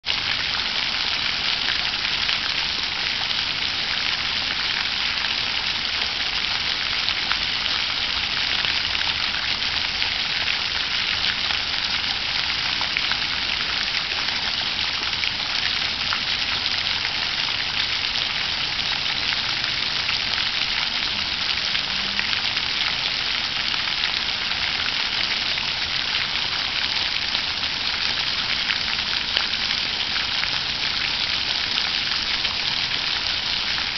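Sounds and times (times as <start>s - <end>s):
water fountain splashing: 0.0s - 33.9s.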